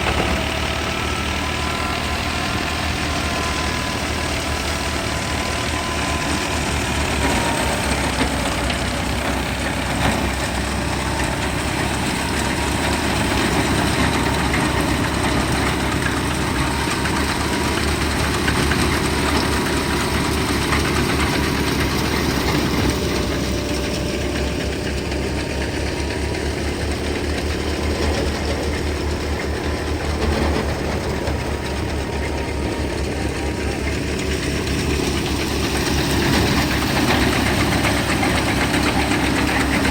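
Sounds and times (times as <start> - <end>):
threshing machinery noise: 0.0 - 39.9
tractor engine drone: 0.0 - 39.9.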